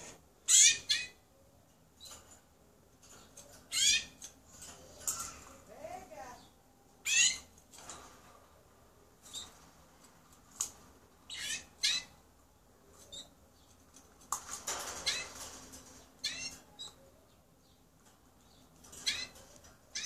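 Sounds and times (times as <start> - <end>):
canary chirping: 0.0 - 2.5, 3.1 - 7.9, 9.1 - 9.7, 10.6 - 20.0.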